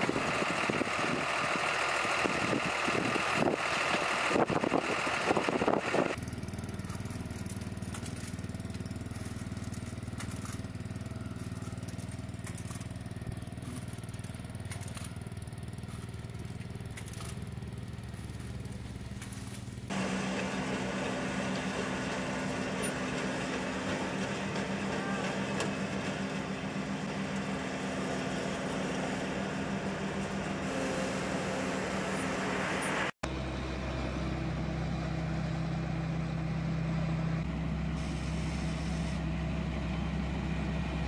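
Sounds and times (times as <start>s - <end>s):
harvester engine running: 0.0s - 41.0s.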